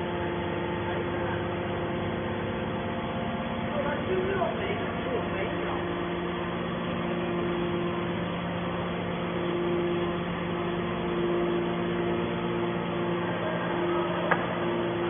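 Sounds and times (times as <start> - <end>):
hydraulic pump motor humming: 0.0 - 15.0.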